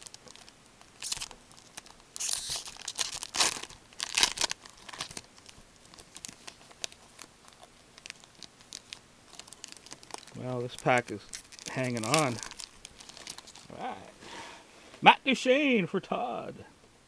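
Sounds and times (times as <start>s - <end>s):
wrapper tearing and crumpling: 0.0s - 13.8s.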